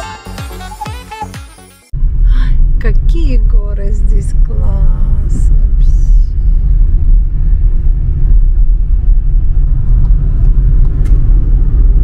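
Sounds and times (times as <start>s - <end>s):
car driving on highway rumble: 1.9s - 12.0s.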